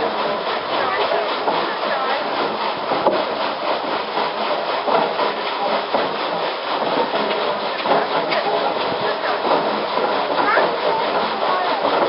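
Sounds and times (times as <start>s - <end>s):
irregular clatters: 0.0s - 12.0s
saw cutting through timber: 0.0s - 12.0s.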